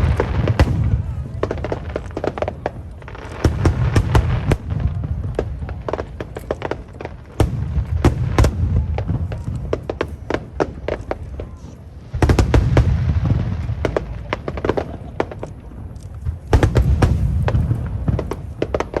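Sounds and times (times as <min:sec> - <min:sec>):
fireworks bursting with booms and cracks: 0:00.0 - 0:19.0.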